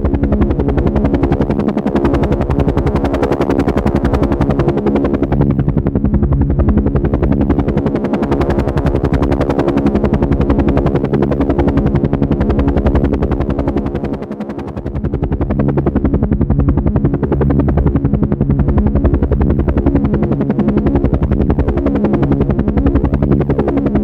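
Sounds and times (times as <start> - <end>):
helicopter engine drone: 0.0 - 24.0
helicopter rotor beating: 0.0 - 24.0.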